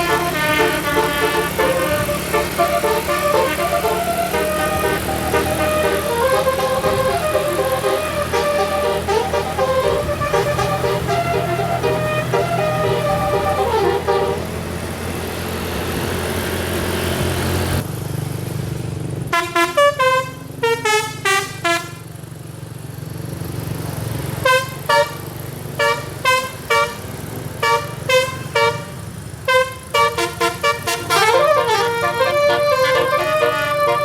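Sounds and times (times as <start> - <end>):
multi-tone bus horn tooting: 0.0 - 16.2, 19.3 - 22.2, 24.4 - 34.0
bus engine running: 0.0 - 34.0
road noise: 0.0 - 34.0.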